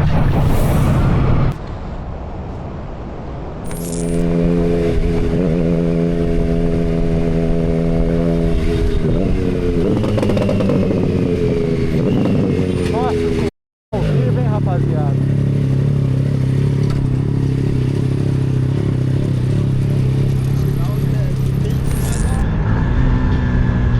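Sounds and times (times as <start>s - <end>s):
motorcycle engine: 3.7s - 13.4s, 14.0s - 23.9s.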